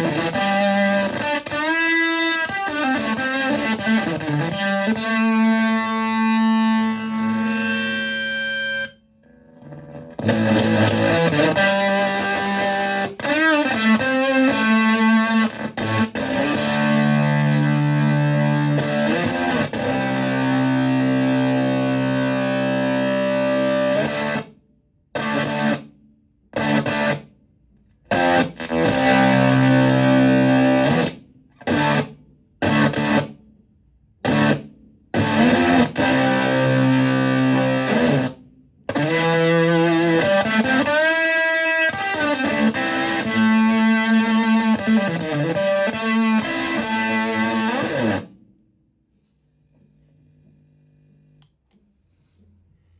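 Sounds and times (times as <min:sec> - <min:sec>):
fuzzy distorted electric guitar: 0:00.0 - 0:24.5, 0:25.2 - 0:25.9, 0:26.5 - 0:27.3, 0:28.1 - 0:33.4, 0:34.2 - 0:48.4.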